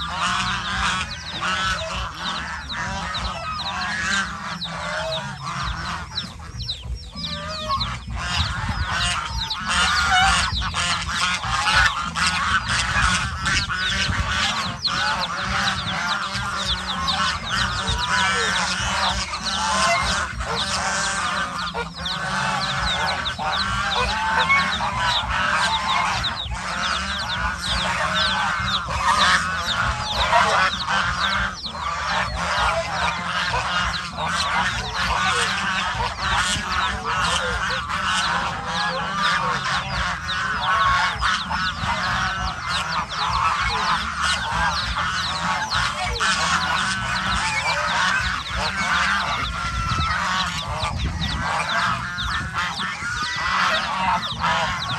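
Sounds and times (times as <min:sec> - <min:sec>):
geese honking: 0:00.0 - 0:54.9.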